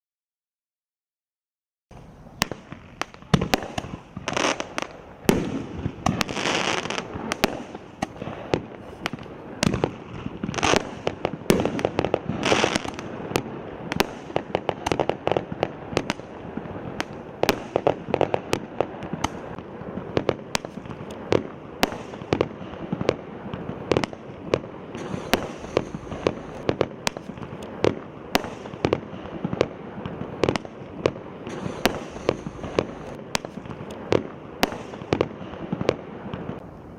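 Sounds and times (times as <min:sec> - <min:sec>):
firework hiss: 0:01.9 - 0:36.9.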